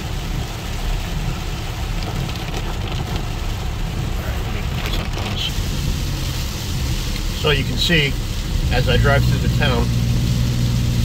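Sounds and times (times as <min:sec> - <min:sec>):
car rumbling on wet road: 0:00.0 - 0:11.0
heavy rain on car windshield: 0:00.0 - 0:11.0
windshield wipers running: 0:00.2 - 0:11.0.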